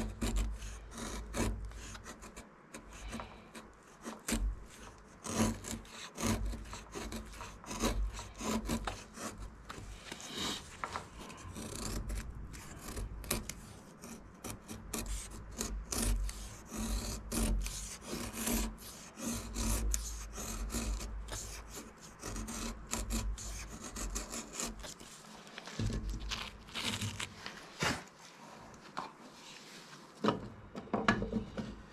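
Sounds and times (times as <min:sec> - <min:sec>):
knife scraping wood: 0:00.0 - 0:29.5.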